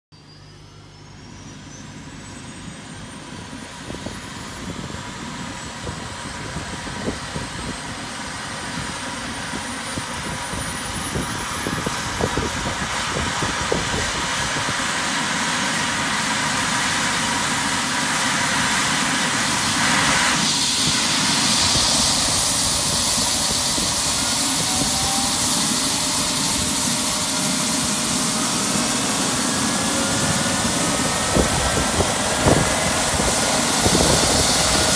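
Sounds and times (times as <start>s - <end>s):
helicopter turbine whine: 0.2s - 34.9s
helicopter rotor spinning: 3.0s - 34.9s.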